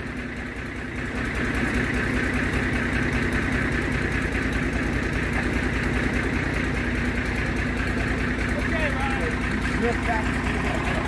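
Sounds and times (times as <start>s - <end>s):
locomotive engine idling: 0.0s - 11.0s.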